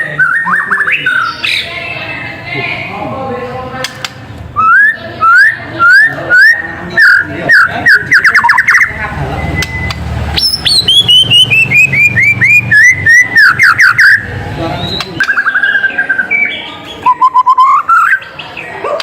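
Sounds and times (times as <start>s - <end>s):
bird singing whistled notes: 0.0s - 1.6s, 4.6s - 18.5s.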